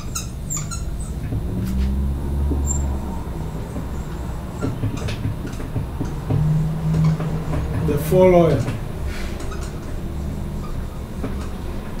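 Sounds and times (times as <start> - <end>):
marker writing on whiteboard: 0.0 - 12.0.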